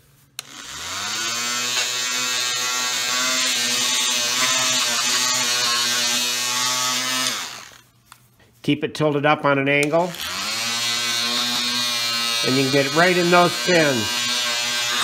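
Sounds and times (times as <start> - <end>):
oscillating multi-tool buzzing: 0.4 - 7.9, 9.8 - 15.0.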